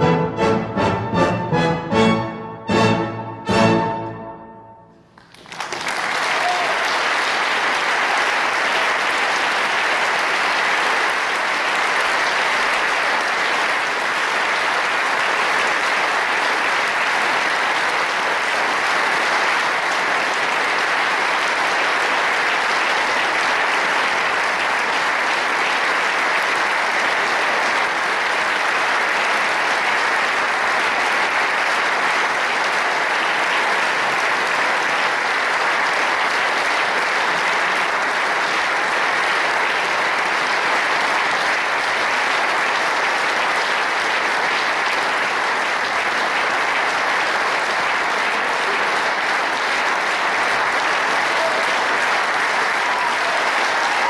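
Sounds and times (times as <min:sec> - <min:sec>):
audience applause: 0:05.1 - 0:54.0.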